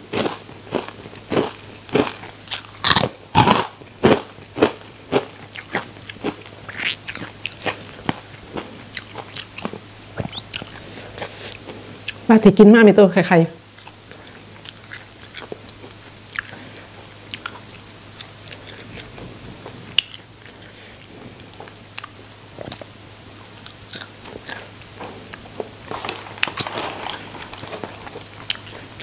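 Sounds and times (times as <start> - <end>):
crunchy chewing of fried fish: 0.0 - 12.3, 13.7 - 29.0
faint low hum: 0.0 - 29.0.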